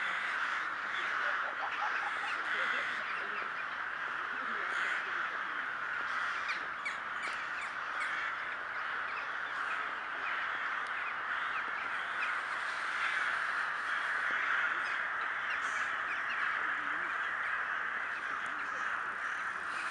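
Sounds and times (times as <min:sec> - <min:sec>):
flock of crows cawing: 0:00.0 - 0:19.9.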